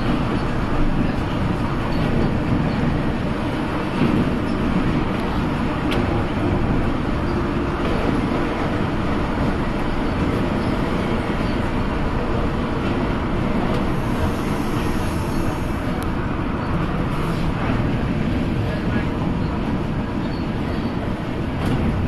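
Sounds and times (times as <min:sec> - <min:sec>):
monorail car running: 0:00.0 - 0:22.0.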